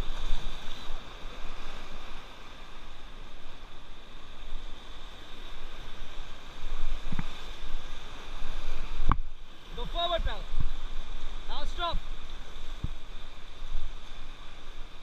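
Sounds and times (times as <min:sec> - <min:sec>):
river water rushing and splashing: 0:00.0 - 0:15.0.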